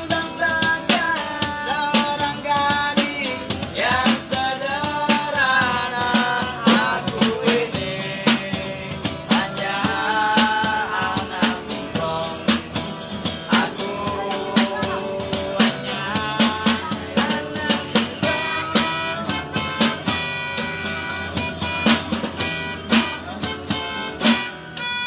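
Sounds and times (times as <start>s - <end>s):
guitar: 0.0s - 25.0s
person singing: 0.0s - 25.0s
steady drum beat: 0.0s - 25.0s.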